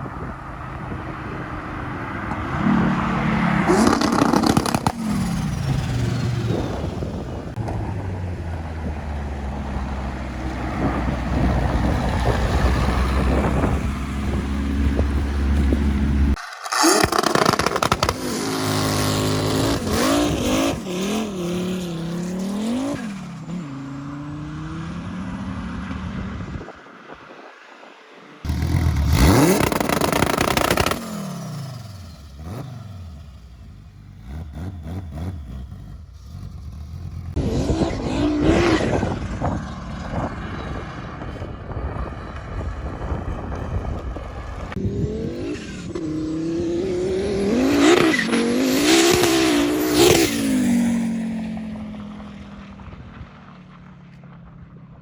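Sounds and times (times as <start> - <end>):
car engine revving and accelerating: 0.0 - 26.8, 28.4 - 53.0.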